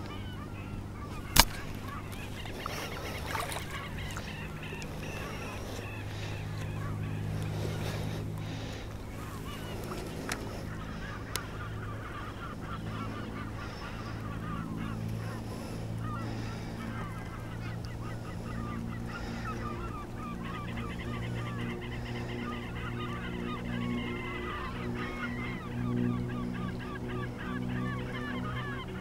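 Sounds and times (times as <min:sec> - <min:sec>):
flamingos honking: 0:00.0 - 0:29.0
steady low hum: 0:00.0 - 0:29.0.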